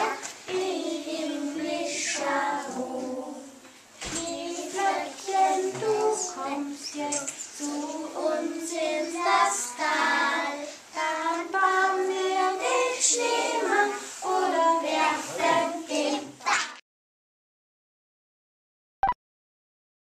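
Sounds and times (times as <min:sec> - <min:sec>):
children singing: 0:00.0 - 0:16.8.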